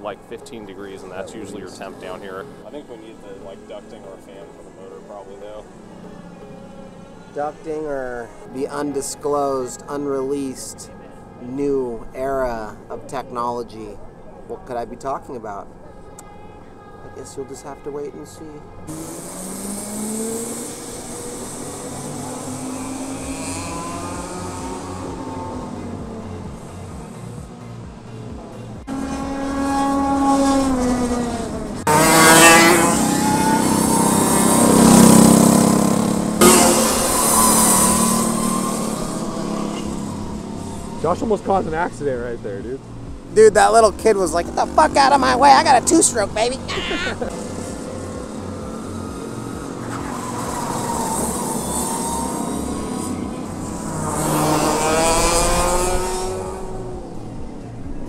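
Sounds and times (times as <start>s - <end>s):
go-kart engines: 0.0s - 58.0s.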